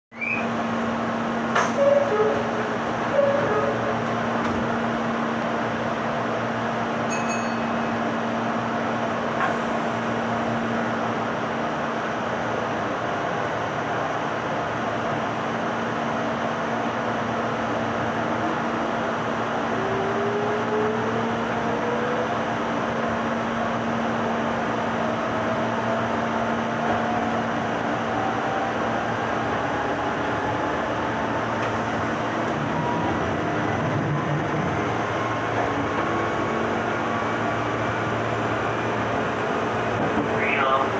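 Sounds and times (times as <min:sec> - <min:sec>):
electric train hum: 0:00.1 - 0:40.9.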